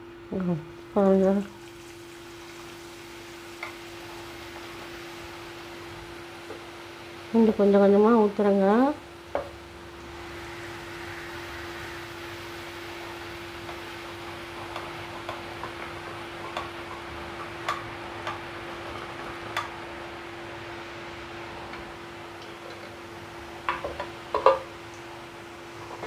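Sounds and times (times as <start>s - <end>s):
low hum: 0.0s - 23.9s
deep-frying sizzle: 0.0s - 26.0s.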